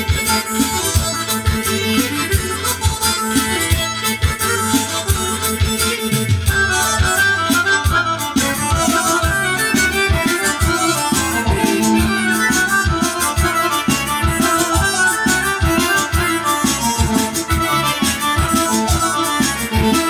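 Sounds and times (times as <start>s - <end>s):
electronic keyboard dance music: 0.0s - 20.0s.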